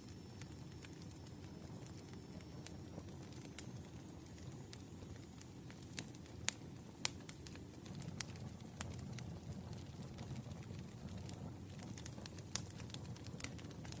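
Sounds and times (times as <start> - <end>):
fire popping: 0.0 - 14.0
low rumble of burning logs: 0.0 - 14.0.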